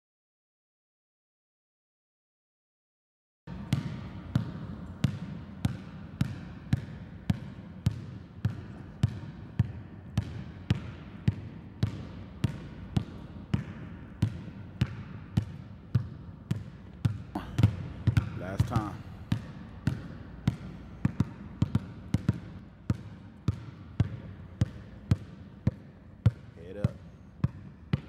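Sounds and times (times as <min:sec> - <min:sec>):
basketball bouncing on hardwood floor: 0:03.6 - 0:26.5, 0:27.4 - 0:28.0.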